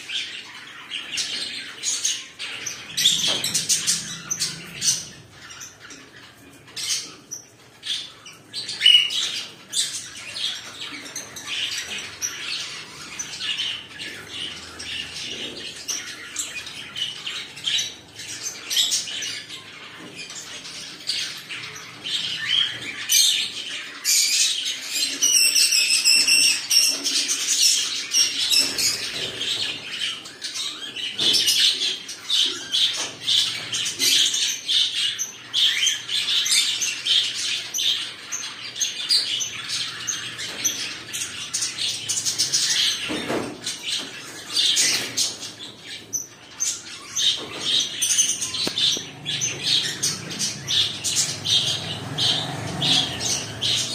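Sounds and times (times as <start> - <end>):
cockatiels chirping: 0.1 - 53.9.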